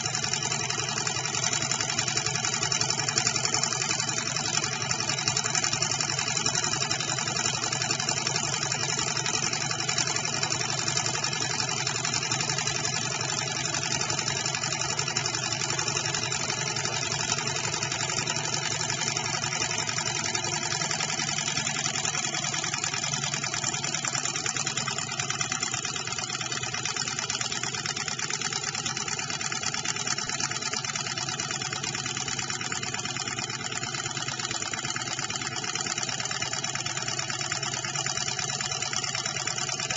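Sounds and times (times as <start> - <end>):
small engine mechanical clatter: 0.0 - 39.9.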